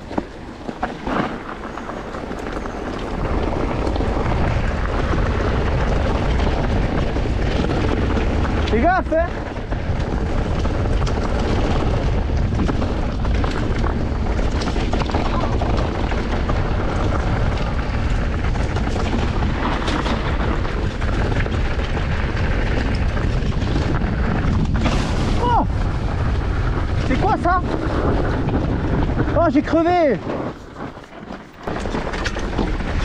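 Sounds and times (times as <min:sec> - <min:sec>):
bike knocking and rattling: 0:00.0 - 0:33.0
tyres on rough ground: 0:00.0 - 0:33.0
wind on microphone: 0:00.0 - 0:33.0.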